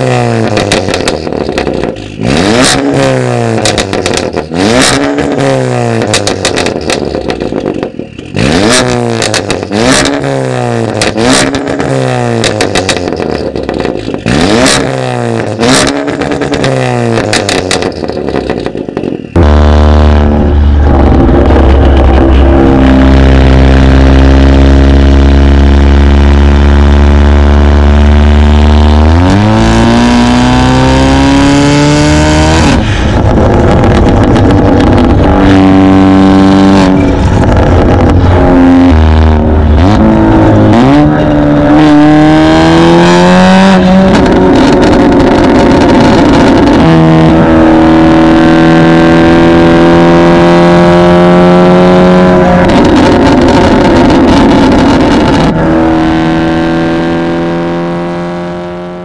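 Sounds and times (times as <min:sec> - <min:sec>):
exhaust pops and crackles: 0:00.0 - 0:30.2, 0:31.6 - 0:42.0, 0:43.2 - 0:48.3, 0:51.2 - 0:56.1
car engine revving: 0:00.0 - 0:59.0.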